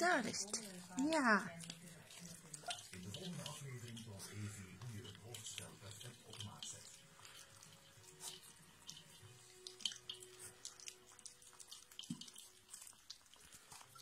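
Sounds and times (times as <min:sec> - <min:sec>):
puppies lapping food: 0:00.0 - 0:14.0.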